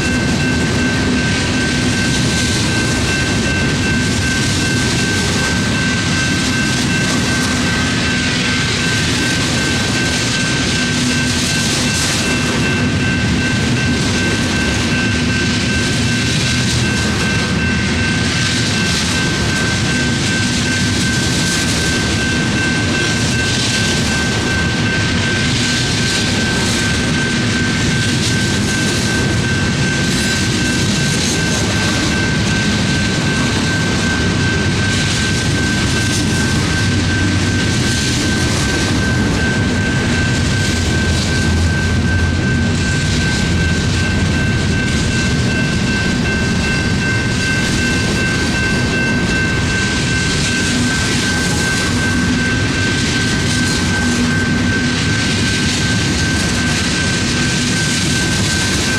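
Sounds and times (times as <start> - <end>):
freight train cars rumbling and rattling: 0.0 - 58.9
steady high-pitched tone: 0.0 - 58.9.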